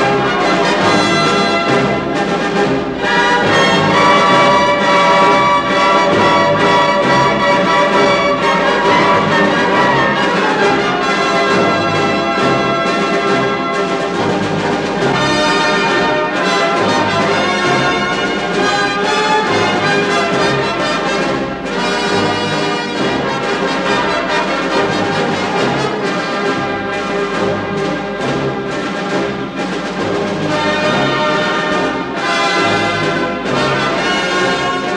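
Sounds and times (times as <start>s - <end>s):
orchestral music led by brass: 0.0s - 34.9s.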